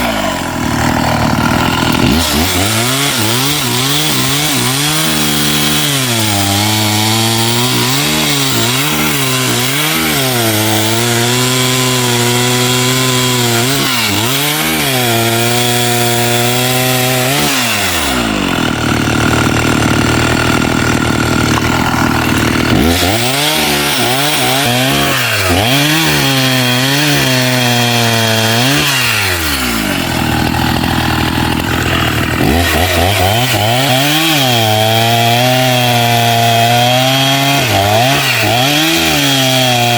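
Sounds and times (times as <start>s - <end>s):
chainsaw cutting wood: 0.0s - 39.9s
chainsaw engine revving: 0.0s - 39.9s.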